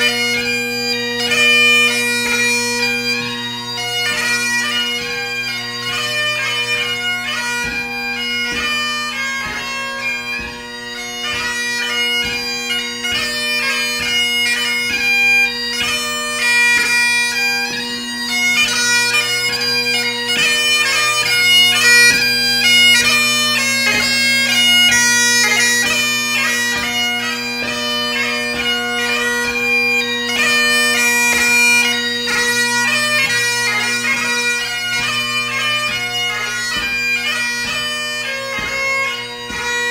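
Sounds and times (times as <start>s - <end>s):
bagpipe playing solo: 0.0s - 39.9s.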